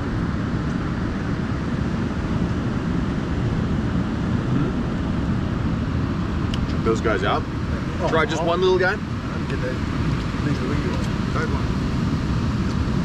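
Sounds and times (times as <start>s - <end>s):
ocean surf: 0.0s - 13.0s
wind on microphone: 0.0s - 13.0s.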